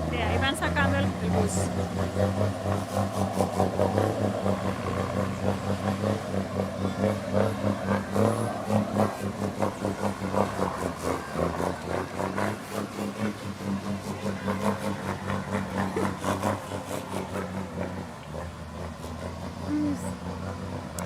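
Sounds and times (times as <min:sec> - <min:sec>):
heavy vehicle engine humming: 0:00.0 - 0:21.0.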